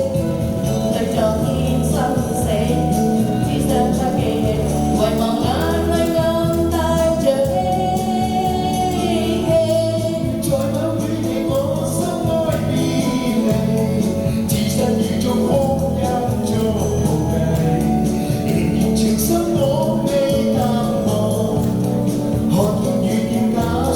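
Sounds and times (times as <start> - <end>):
pop song with sung vocals: 0.0 - 23.9.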